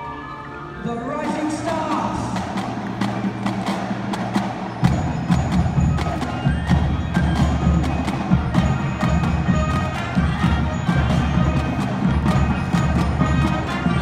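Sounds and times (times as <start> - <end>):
marching band playing: 0.0 - 14.0
percussion strikes: 0.8 - 14.0.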